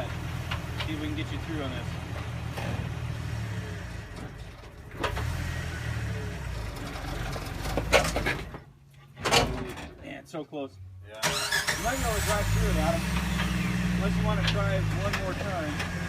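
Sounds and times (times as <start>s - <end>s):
engine running under load: 0.0s - 8.6s, 11.2s - 16.0s.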